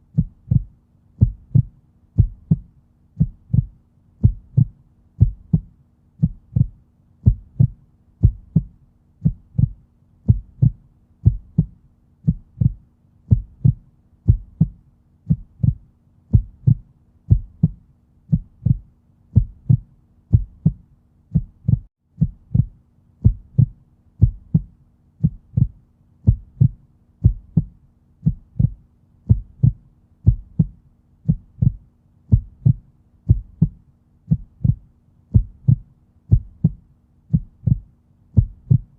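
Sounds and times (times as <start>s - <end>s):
faint low hum: 0.0s - 38.9s
heartbeat: 0.0s - 38.9s.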